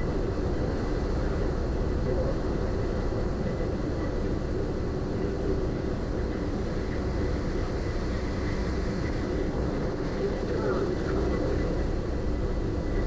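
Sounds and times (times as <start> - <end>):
faint high whine: 0.0 - 13.0
ferry engine drone and hull rumble: 0.0 - 13.0.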